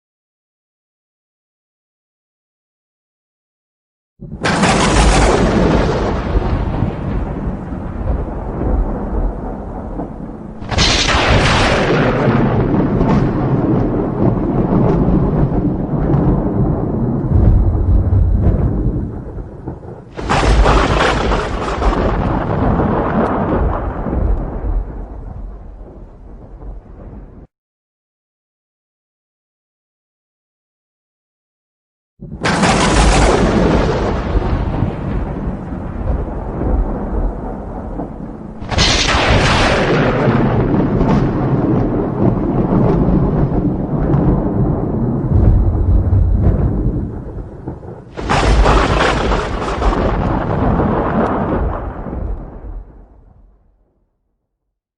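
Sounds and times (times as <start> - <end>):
rolling thunder rumbles: 4.2 - 27.5, 32.2 - 53.9
sharp thunderclap: 4.2 - 27.5, 32.2 - 53.8.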